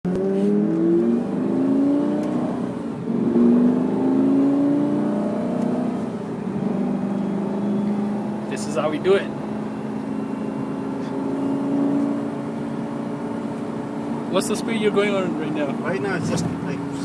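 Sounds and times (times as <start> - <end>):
sports car engine accelerating: 0.1 - 17.0.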